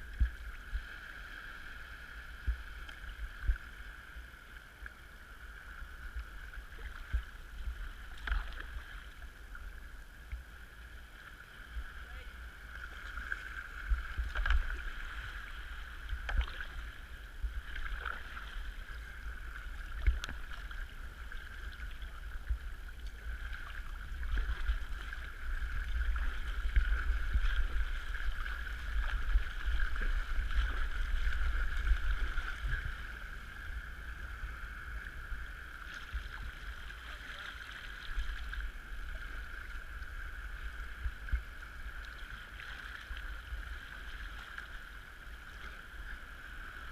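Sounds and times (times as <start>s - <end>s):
low rumble: 0.0s - 42.3s
steady high-pitched hum: 0.0s - 46.9s
water washing against hull: 0.0s - 46.9s
kayak paddle strokes: 2.2s - 46.9s.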